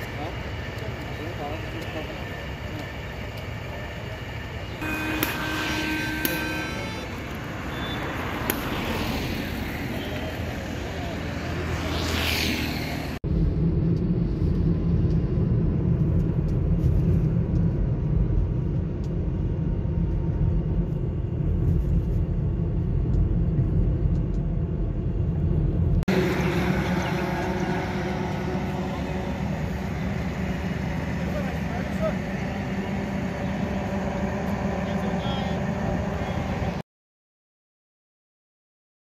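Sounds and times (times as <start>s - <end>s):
car engine and tyre rumble: 0.0s - 36.8s
roadside noise: 0.0s - 36.8s.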